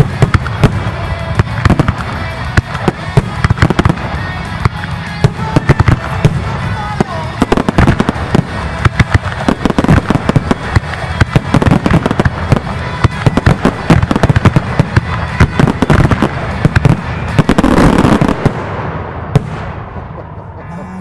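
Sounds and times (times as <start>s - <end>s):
fireworks bursting and crackling: 0.0s - 20.8s.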